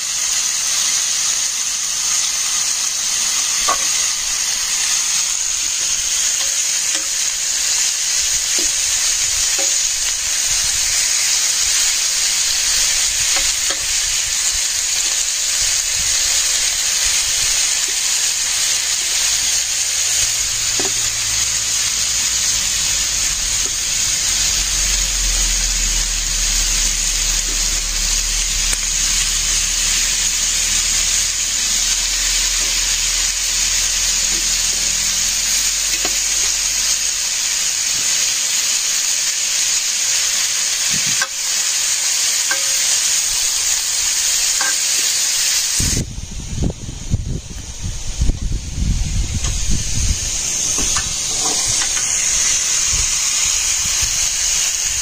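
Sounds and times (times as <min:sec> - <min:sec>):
beef sizzling in oil: 0:00.0 - 0:55.0.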